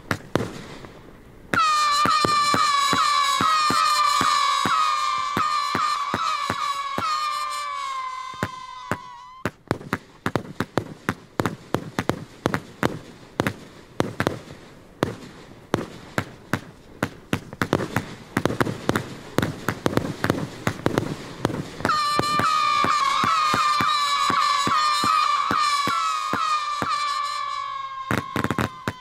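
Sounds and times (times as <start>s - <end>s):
fireworks bangs and cracks: 0.0s - 29.0s
fireworks crackle: 0.0s - 29.0s.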